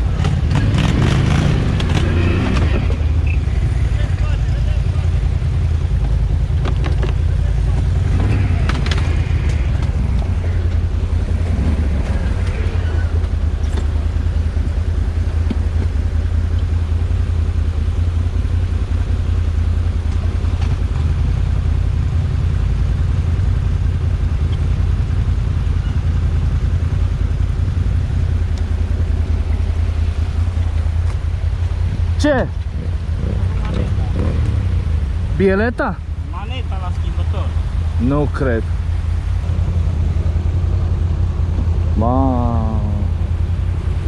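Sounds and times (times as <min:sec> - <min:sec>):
atv engine droning steadily: 0:00.0 - 0:44.0.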